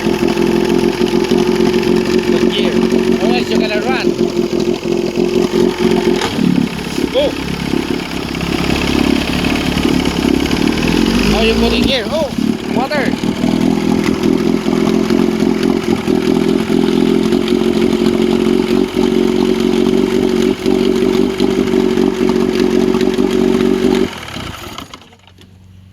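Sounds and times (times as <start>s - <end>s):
boat engine idling: 0.0s - 25.9s.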